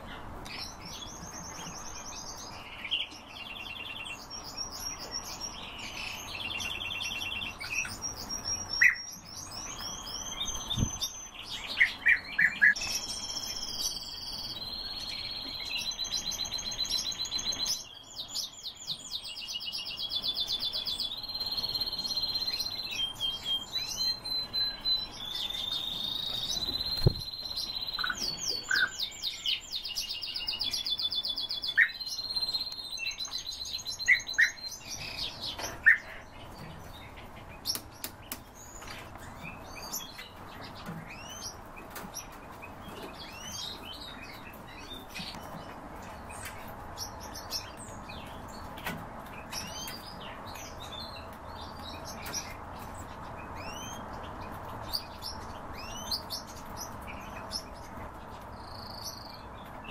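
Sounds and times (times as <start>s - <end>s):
caged birds trilling and chirping: 0.0s - 59.9s.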